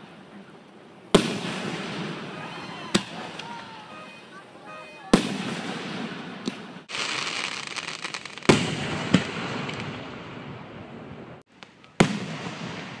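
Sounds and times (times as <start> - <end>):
fireworks crackling: 0.0 - 13.0
fireworks booming: 1.1 - 13.0.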